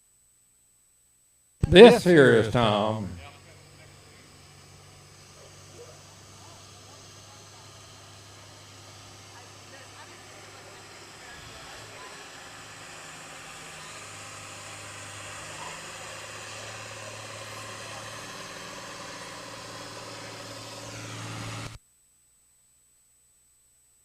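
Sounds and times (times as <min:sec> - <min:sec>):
tractor engine running under load: 0:01.8 - 0:21.8.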